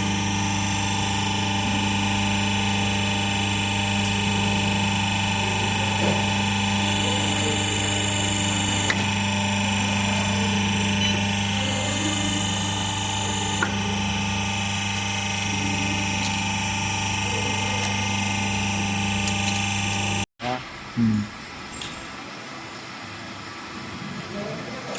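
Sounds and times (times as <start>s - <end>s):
hydraulic machine motor hum: 0.0s - 20.3s.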